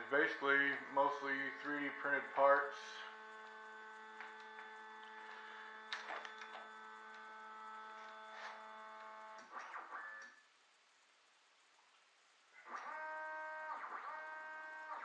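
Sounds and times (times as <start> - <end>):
stepper motors whining: 0.0 - 10.3, 12.6 - 15.0.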